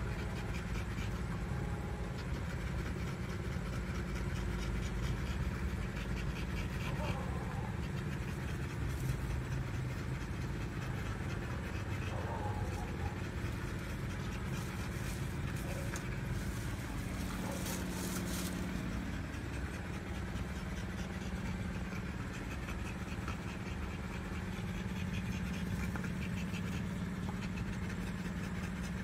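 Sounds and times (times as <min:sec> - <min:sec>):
dog panting: 0:00.0 - 0:29.0
low hum: 0:00.0 - 0:29.0.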